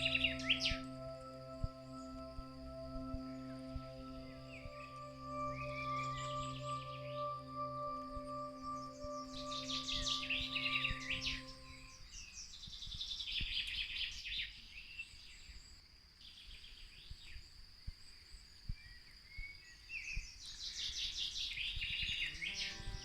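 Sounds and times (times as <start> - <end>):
songbirds chirping and twittering: 0.0 - 23.0.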